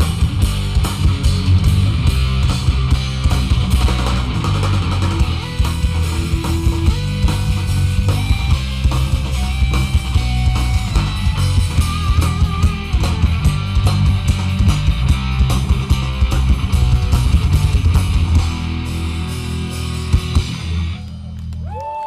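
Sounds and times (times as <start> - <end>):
steady drum beat: 0.0 - 21.0
lead electric guitar: 0.0 - 21.8
bass guitar: 0.0 - 22.0.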